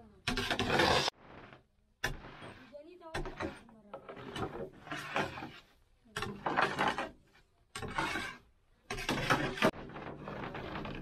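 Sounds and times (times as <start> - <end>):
metal scraper scraping steel pan: 0.2 - 11.0.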